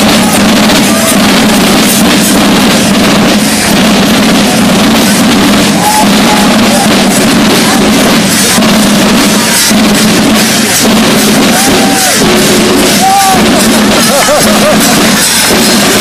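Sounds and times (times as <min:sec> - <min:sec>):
marching side drums: 0:00.0 - 0:16.0.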